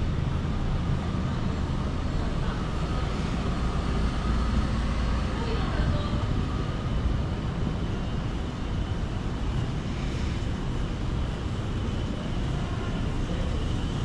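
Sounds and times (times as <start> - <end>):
low rumble of city street: 0.0 - 14.0.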